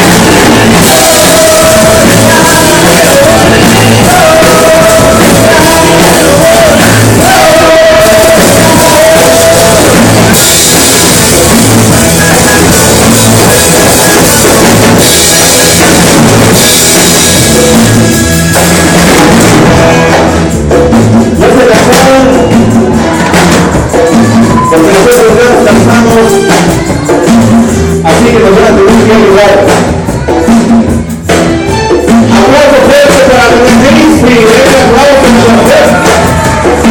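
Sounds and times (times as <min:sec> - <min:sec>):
rock band music: 0:00.0 - 0:36.9.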